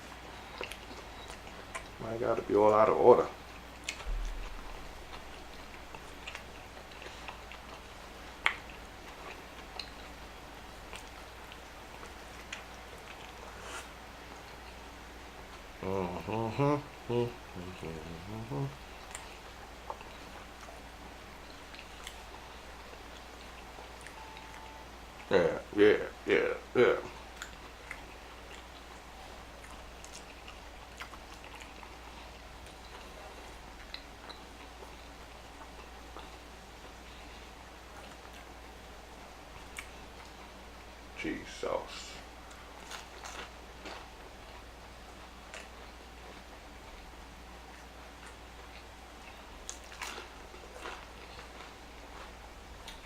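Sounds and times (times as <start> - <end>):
person chewing food: 0.0 - 2.0, 3.4 - 25.3, 27.1 - 40.9, 42.2 - 53.0.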